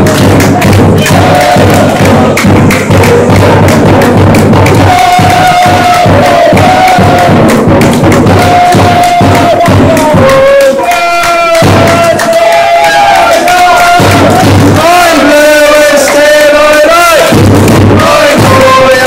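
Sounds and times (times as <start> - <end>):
football supporters chanting: 0.0 - 19.0
hand-clapping beat: 0.0 - 19.0.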